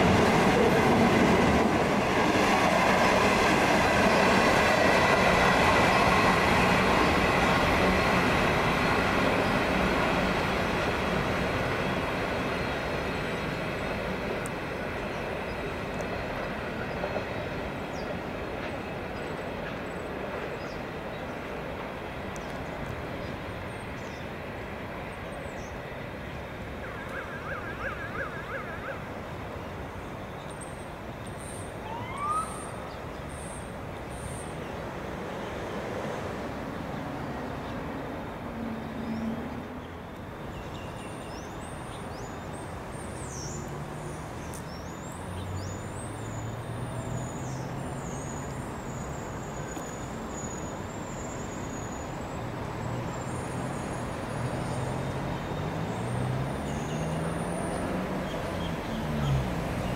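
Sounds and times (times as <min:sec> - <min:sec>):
distant diesel train engine drone: 0:00.0 - 0:59.9.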